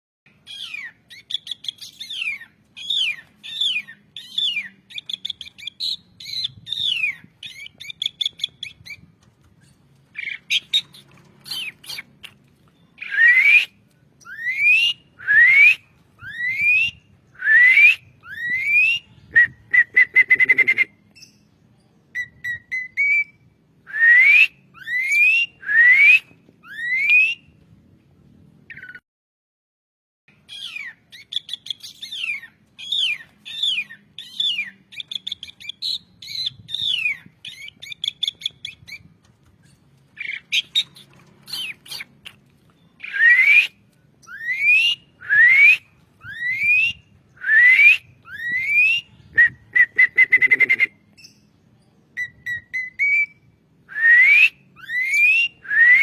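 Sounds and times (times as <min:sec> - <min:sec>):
starling whistling song: 0:00.5 - 0:09.0, 0:09.7 - 0:21.5, 0:22.1 - 0:27.5, 0:30.5 - 0:39.1, 0:40.2 - 0:42.4, 0:43.0 - 0:51.5, 0:52.2 - 0:56.0.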